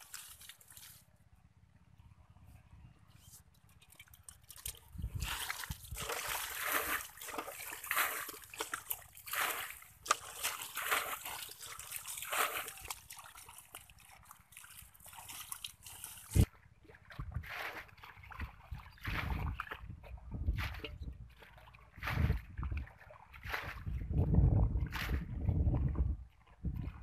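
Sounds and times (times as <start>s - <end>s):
splashing through muddy water: 0.0s - 1.2s, 3.4s - 27.0s.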